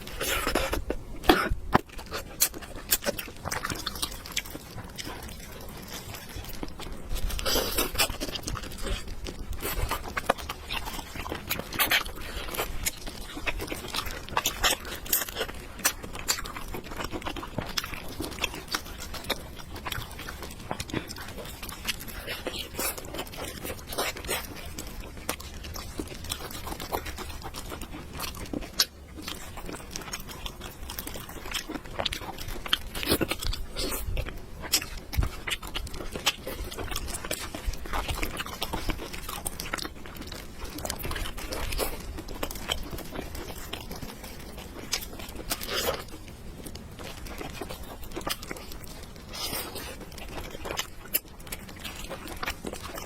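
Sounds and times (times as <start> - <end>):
person chewing and crunching food: 0.0 - 53.0
small clicks and crackles: 0.0 - 53.0.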